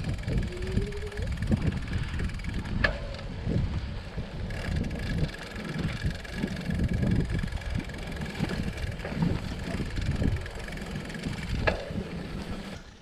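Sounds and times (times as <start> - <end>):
wind on microphone: 0.0 - 12.8
bike tyres rumbling on dirt: 0.0 - 13.0.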